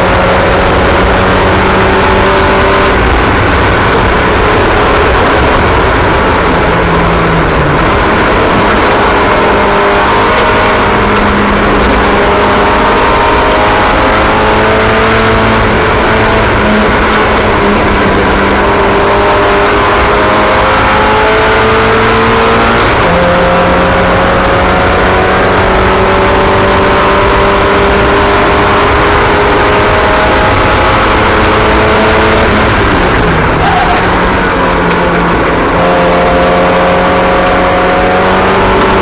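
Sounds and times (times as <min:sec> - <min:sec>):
small racing engines: 0:00.0 - 0:39.0.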